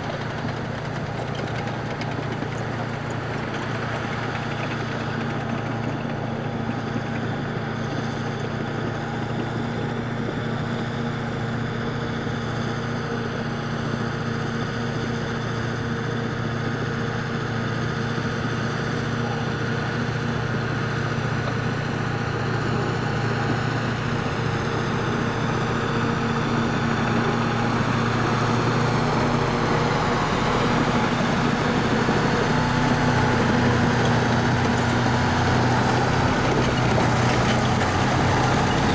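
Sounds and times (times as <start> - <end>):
tracked vehicle engine running: 0.0 - 38.9.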